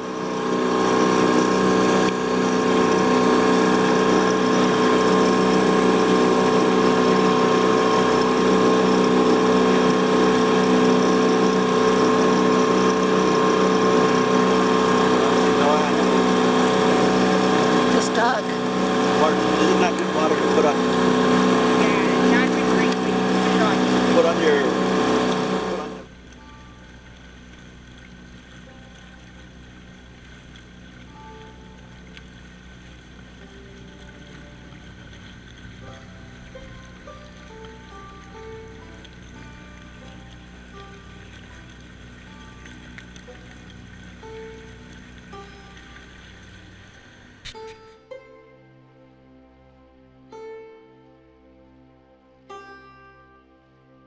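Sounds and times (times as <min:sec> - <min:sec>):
water rushing along hull: 0:00.0 - 0:52.7
outboard motor running: 0:00.0 - 0:54.0.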